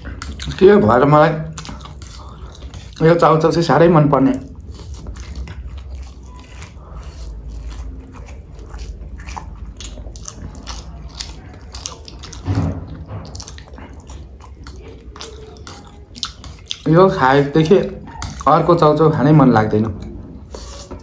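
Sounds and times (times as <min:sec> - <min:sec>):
noodle chewing mouth smacks: 0:00.0 - 0:03.4, 0:04.4 - 0:18.8.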